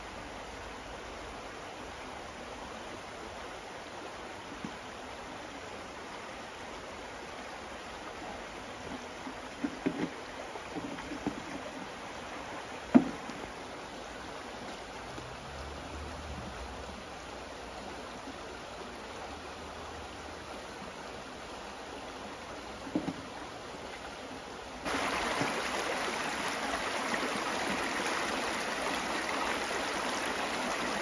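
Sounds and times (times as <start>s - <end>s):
rocky stream running: 0.0s - 31.0s.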